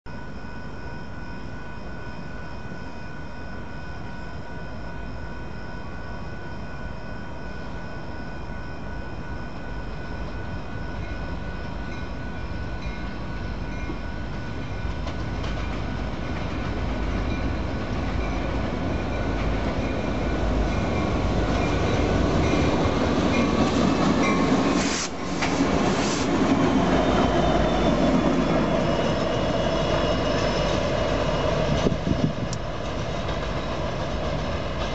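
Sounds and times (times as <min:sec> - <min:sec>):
diesel locomotive engine rumble: 0:00.2 - 0:34.9
train wheel noise: 0:06.2 - 0:34.9.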